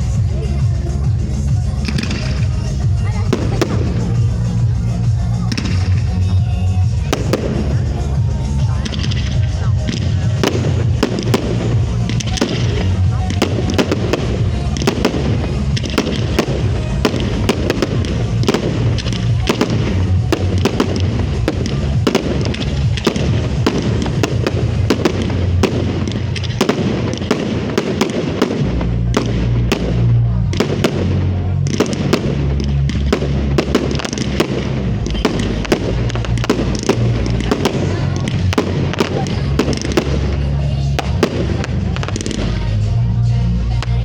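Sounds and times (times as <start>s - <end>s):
fireworks bangs and crackles: 0.0s - 44.0s
music bass: 0.0s - 44.0s.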